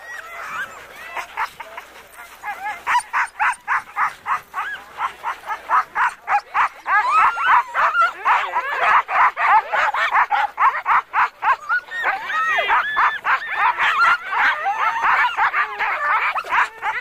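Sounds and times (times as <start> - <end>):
dogs barking and yelping: 0.0 - 17.0.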